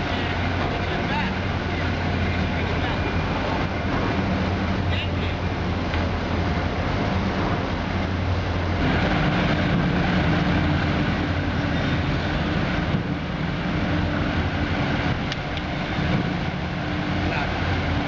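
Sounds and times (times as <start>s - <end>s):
low hum: 0.0s - 18.0s
steady drone: 0.0s - 18.0s.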